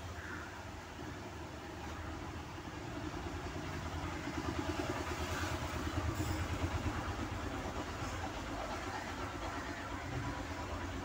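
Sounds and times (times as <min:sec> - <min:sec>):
low pulsing engine rumble: 0:00.0 - 0:11.0.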